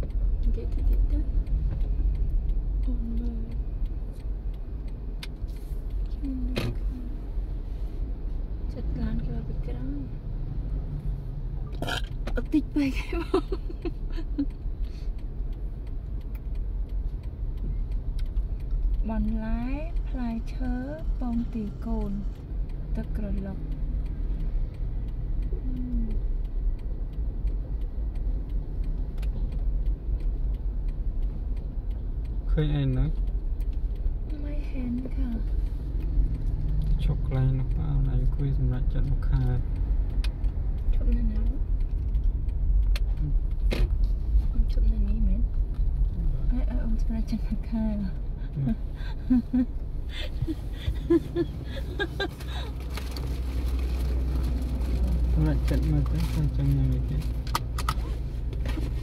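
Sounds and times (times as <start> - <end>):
faint regular ticking: 0.0 - 59.0
street traffic rumble: 0.0 - 59.0.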